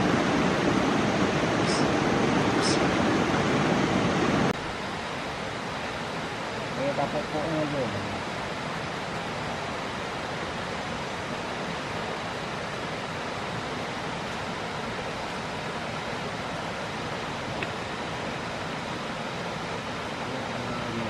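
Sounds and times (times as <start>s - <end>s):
steady rushing noise: 0.0s - 21.0s.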